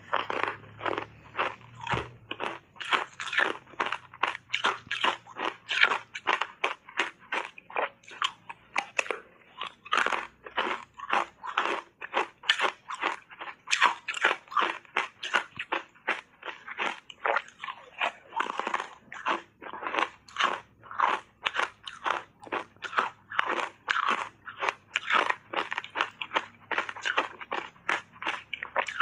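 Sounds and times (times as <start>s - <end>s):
ice being chewed crunching: 0.0s - 29.0s.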